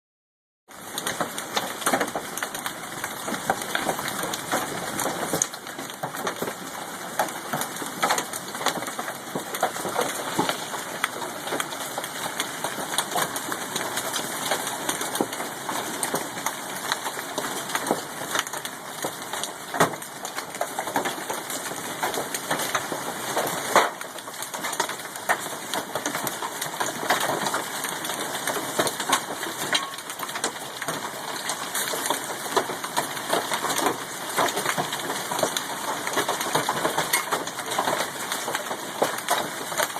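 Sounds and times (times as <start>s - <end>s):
hailstones pelting down: 0.7s - 39.9s.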